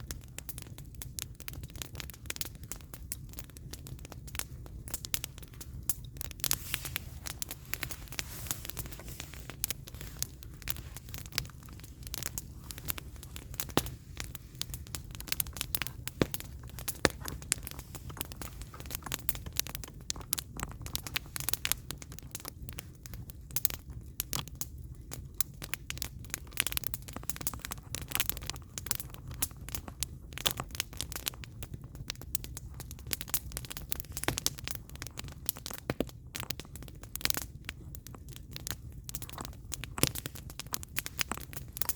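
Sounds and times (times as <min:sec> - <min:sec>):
campfire crackling and popping: 0:00.0 - 0:41.9
fire low rumble: 0:00.0 - 0:41.9.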